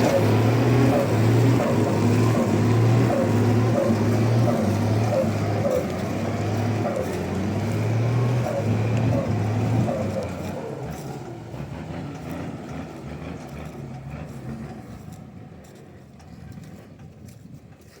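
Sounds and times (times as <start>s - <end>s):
truck engine under load: 0.0s - 18.0s.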